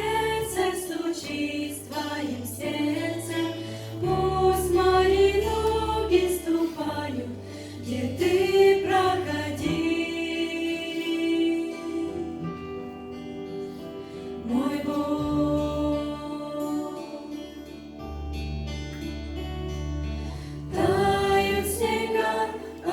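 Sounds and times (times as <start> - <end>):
voices singing worship song: 0.0 - 18.0, 20.4 - 22.9
low musical accompaniment: 0.0 - 22.9.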